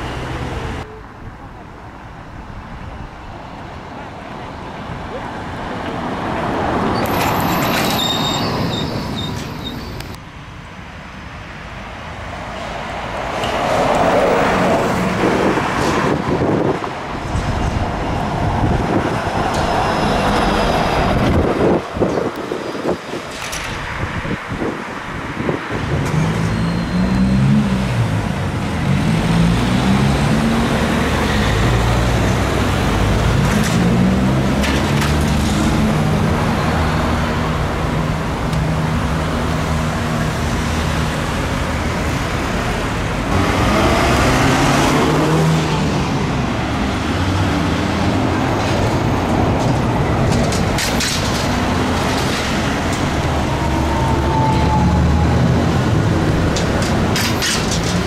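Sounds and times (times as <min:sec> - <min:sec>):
low traffic hum: 0:00.0 - 0:58.0
vehicles driving past: 0:00.0 - 0:58.0.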